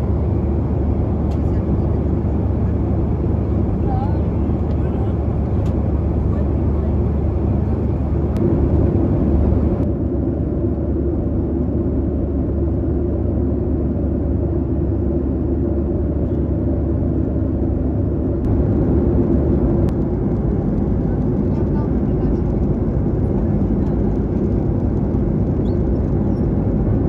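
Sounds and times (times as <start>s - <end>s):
jet engine and airflow rumble: 0.0s - 27.0s.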